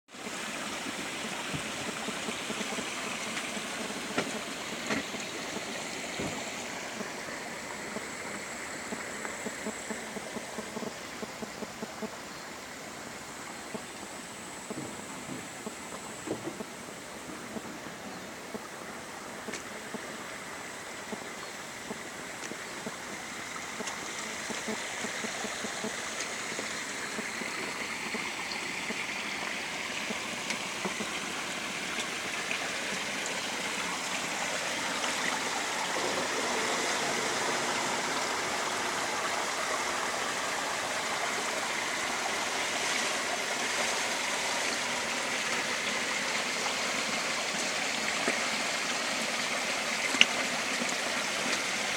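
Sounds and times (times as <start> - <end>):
water rushing in a brook: 0.0 - 51.9.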